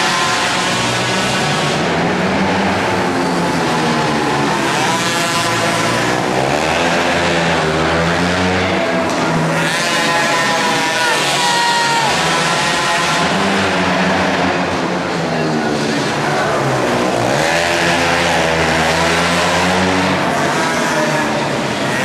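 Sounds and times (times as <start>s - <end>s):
mini quad engines racing: 0.0s - 22.0s.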